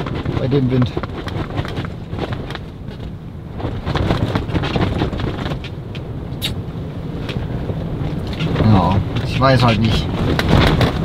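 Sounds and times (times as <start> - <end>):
tent fabric flapping: 0.0 - 6.1, 7.1 - 11.0
storm wind rushing: 0.0 - 11.0.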